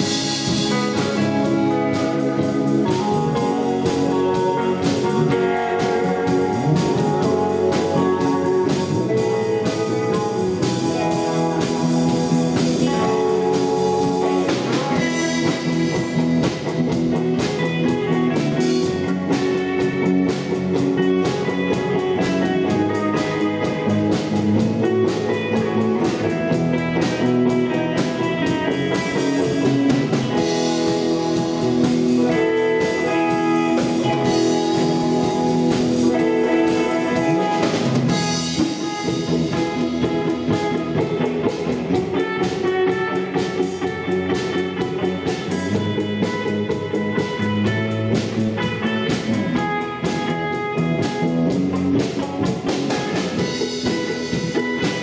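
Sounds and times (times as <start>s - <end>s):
bass: 0.0s - 55.0s
drum kit: 0.0s - 55.0s
electric guitars playing melody: 0.0s - 55.0s.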